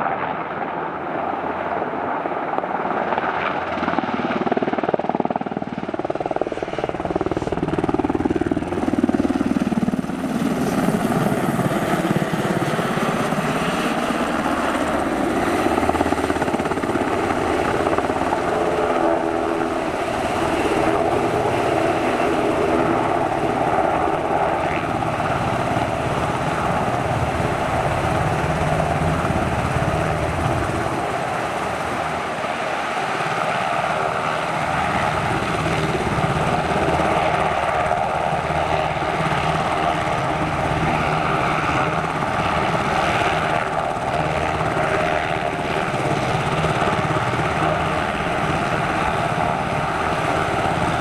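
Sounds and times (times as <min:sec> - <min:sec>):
helicopter rotors and engines: 0:00.0 - 0:51.0.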